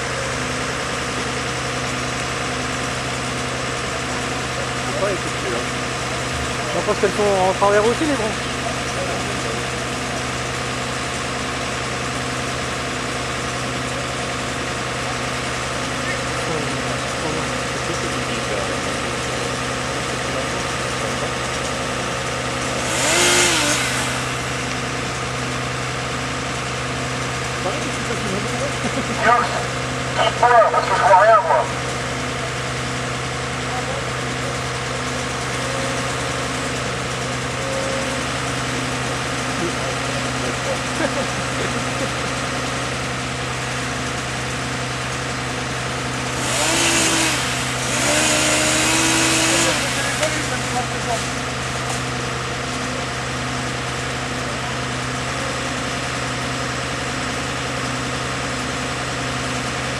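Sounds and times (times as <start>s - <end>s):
fire truck engine idling: 0.0s - 23.1s, 23.8s - 59.9s.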